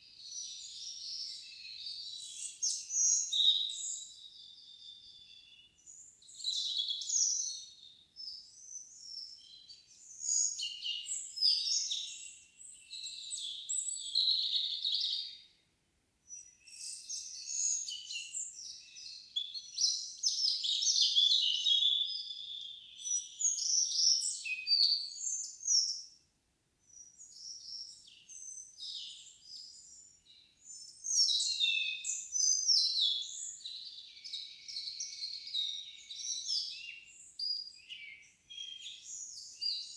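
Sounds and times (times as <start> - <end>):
songbirds singing: 0.0 - 15.6, 16.3 - 26.2, 26.8 - 39.9.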